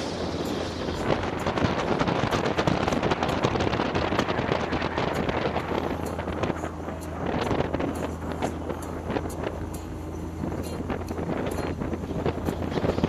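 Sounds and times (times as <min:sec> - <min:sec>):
engine running: 0:00.0 - 0:13.0
wind buffeting microphone: 0:00.0 - 0:13.0.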